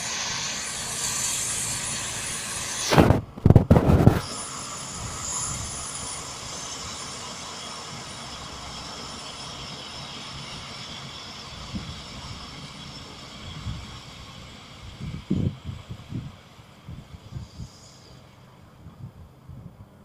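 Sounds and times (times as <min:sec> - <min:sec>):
combine harvester drone: 0:00.0 - 0:20.0.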